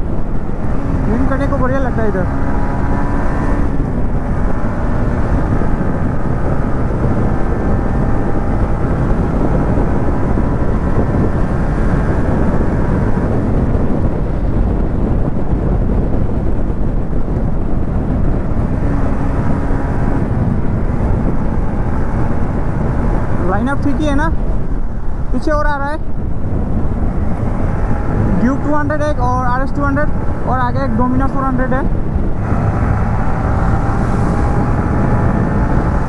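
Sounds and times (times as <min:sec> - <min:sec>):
motorcycle engine humming: 0:00.0 - 0:36.0
wind rushing over microphone: 0:00.0 - 0:36.0.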